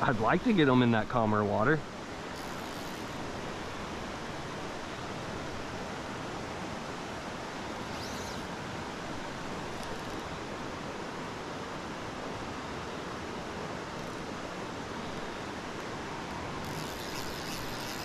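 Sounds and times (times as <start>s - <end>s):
stream rushing over rocks: 0.0s - 16.7s.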